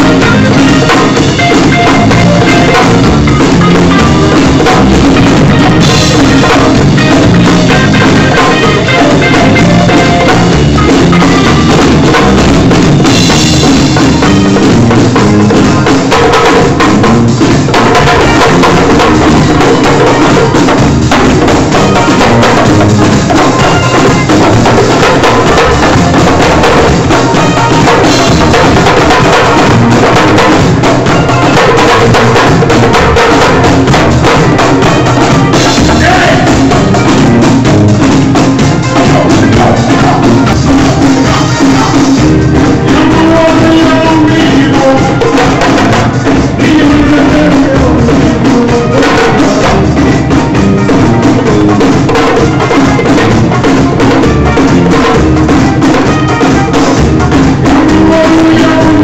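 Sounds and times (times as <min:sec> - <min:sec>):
live afrobeat band playing: 0:00.0 - 0:59.0.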